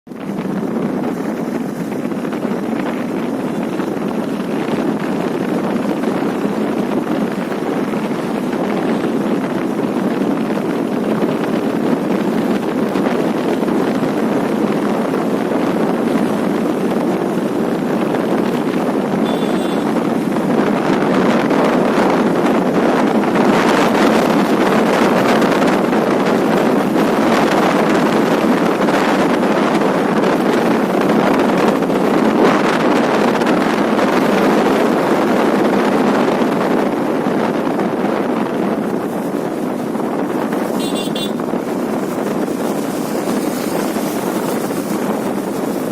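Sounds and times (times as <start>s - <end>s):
wind rushing on microphone: 0.1s - 45.9s.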